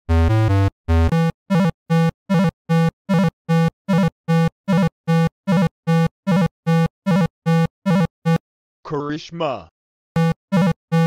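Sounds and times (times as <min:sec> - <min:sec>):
repeated pulsing note: 0:00.1 - 0:08.4, 0:10.2 - 0:11.0.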